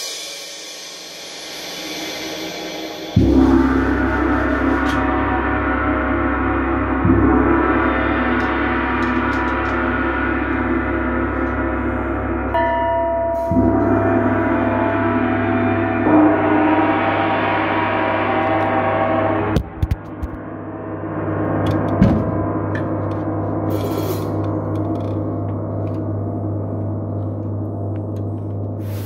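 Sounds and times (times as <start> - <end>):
gong and cymbals ringing: 0.0 - 29.0
low hum: 3.0 - 29.0.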